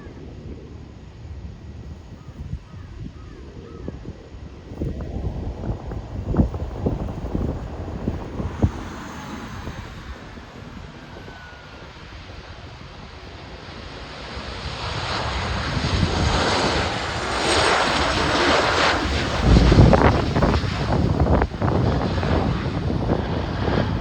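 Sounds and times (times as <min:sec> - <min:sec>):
airliner engines rushing: 0:00.0 - 0:24.0.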